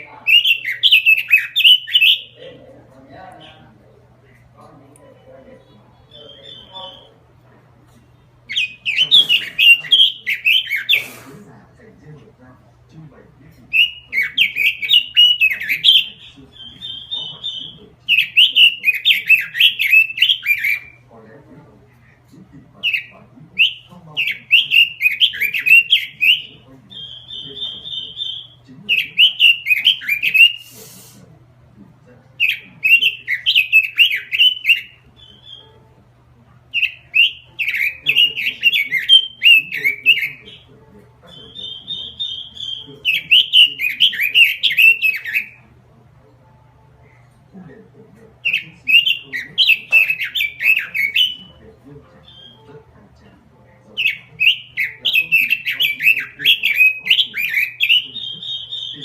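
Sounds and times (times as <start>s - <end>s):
bird singing warbling phrases: 0.0s - 7.5s, 8.2s - 59.0s
faint low hum: 0.0s - 59.0s.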